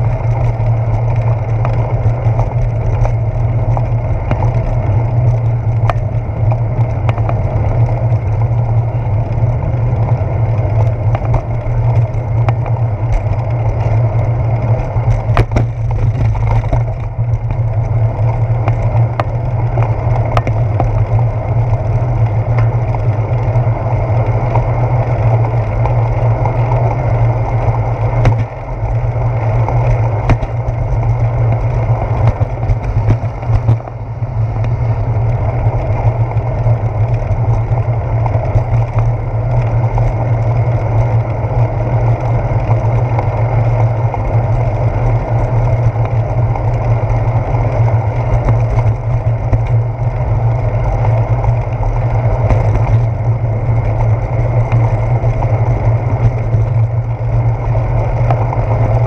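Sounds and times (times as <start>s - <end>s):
bicycle rolling on pavement: 0.0s - 59.0s
wind noise: 0.0s - 59.0s.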